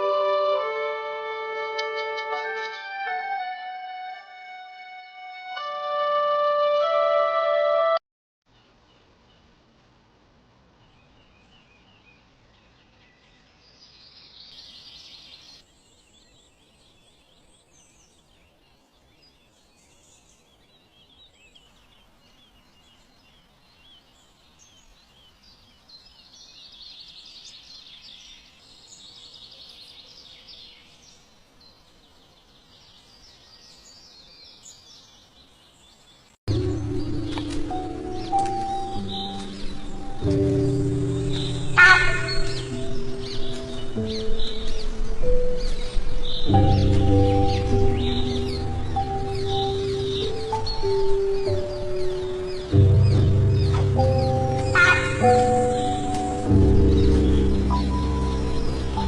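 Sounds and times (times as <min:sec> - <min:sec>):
birds chirping: 0:10.8 - 0:59.0.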